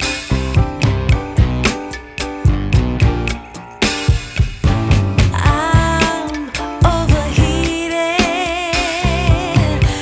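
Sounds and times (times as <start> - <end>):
guitar: 0.0 - 10.0
steady drum beat: 0.0 - 10.0.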